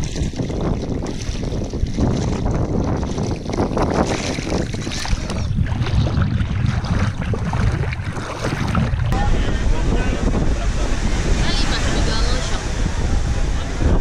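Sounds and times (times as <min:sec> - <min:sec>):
water lapping and splashing: 0:00.0 - 0:14.0
wind buffeting microphone: 0:00.0 - 0:14.0.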